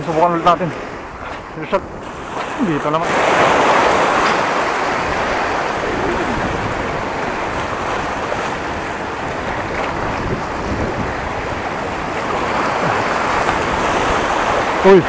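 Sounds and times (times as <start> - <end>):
small waves washing over sand: 0.0 - 15.0.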